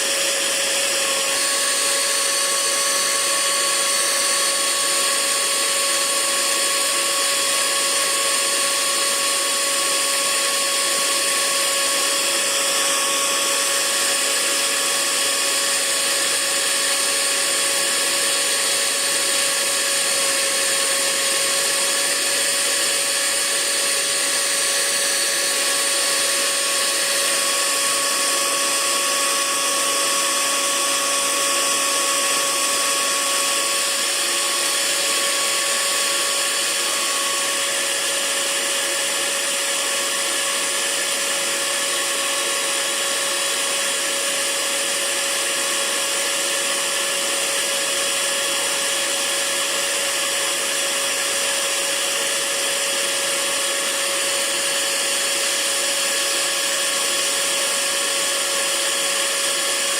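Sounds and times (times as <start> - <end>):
hair dryer running: 0.0 - 59.9.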